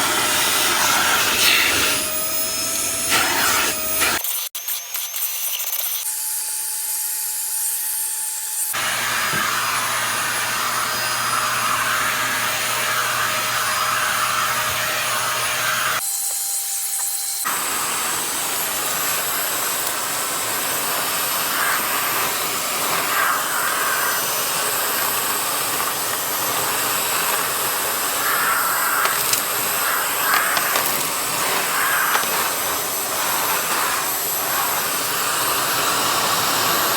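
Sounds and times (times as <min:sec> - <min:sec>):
vacuum cleaner running: 0:00.0 - 0:04.2, 0:08.7 - 0:16.2, 0:17.4 - 0:36.9.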